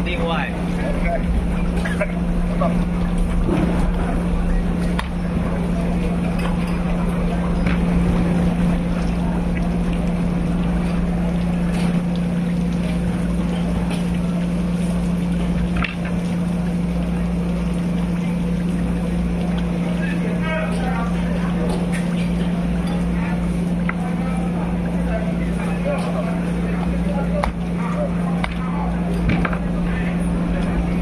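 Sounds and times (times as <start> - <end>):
loud machine hum: 0.0 - 31.0.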